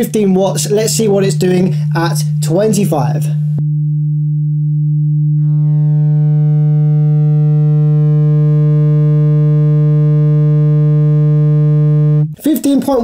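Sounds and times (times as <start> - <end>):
subwoofer low test tone hum: 0.0 - 12.4.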